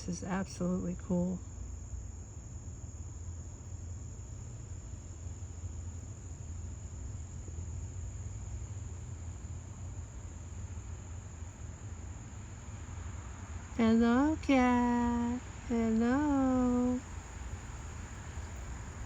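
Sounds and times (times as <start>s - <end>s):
insects droning: 0.0s - 19.0s
low steady rumble: 0.0s - 19.0s.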